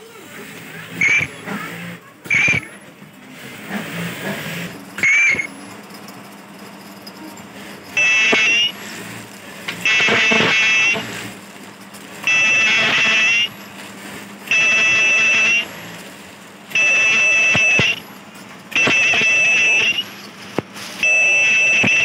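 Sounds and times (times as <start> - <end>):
high-pitched sealing machine whine: 0.0 - 2.9, 3.5 - 22.0
low machine hum: 0.0 - 22.0.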